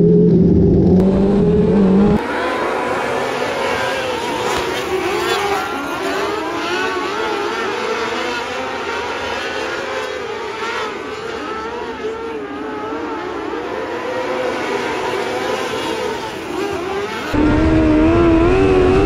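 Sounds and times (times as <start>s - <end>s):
race car engines revving: 0.0s - 19.0s.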